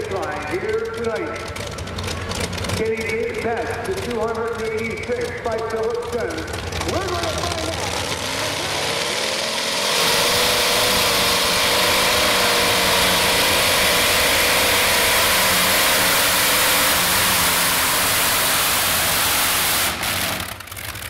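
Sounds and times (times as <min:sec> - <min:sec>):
tractor engine at full throttle: 0:00.0 - 0:21.0.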